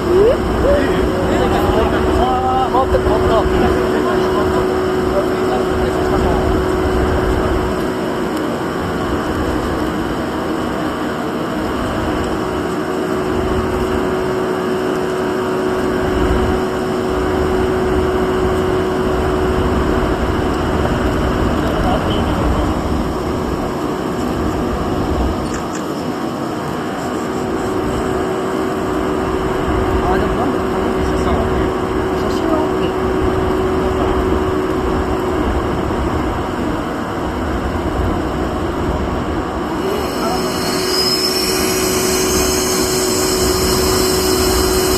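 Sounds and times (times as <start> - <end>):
constant humming note: 0.0 - 44.9
electric locomotive running: 0.0 - 44.9.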